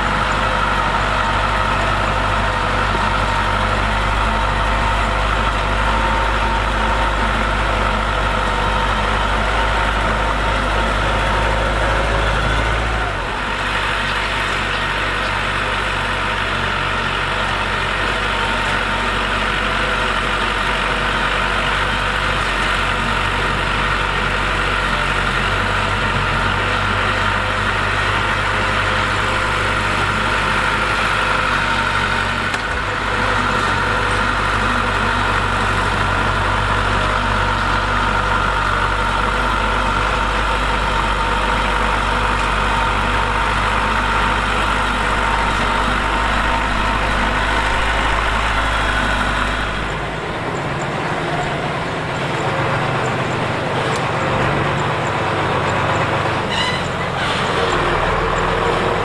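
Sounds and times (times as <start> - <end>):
diesel engine rumbling: 0.0 - 59.0
steady machine whine: 0.0 - 59.0.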